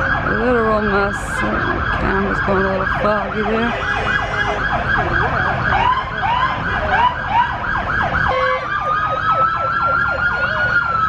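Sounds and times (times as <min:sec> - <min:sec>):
emergency siren yelping fast: 0:00.0 - 0:11.0
siren wailing: 0:00.0 - 0:11.0
siren yelping slowly: 0:00.0 - 0:11.0.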